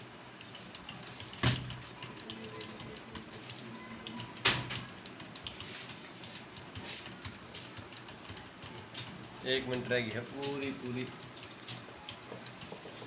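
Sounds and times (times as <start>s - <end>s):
fast keyboard typing: 0.0s - 13.0s.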